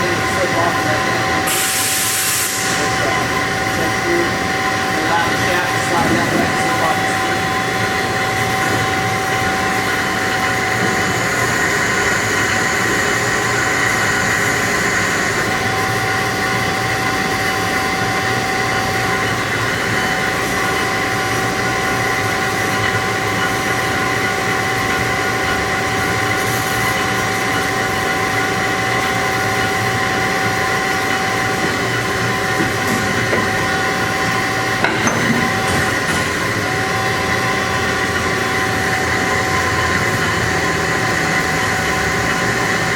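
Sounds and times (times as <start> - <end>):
band saw running: 0.0 - 42.9.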